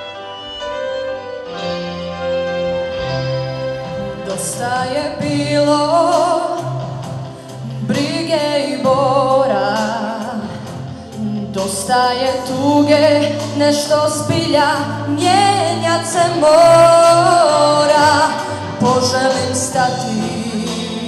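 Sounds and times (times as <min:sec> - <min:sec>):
pop song instrumental chords: 0:00.0 - 0:21.0
person singing with vibrato: 0:02.8 - 0:21.0.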